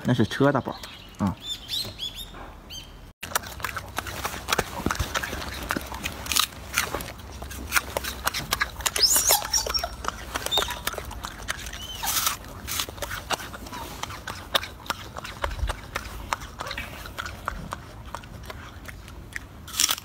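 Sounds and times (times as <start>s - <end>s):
monkey crunching an apple: 3.2s - 20.0s.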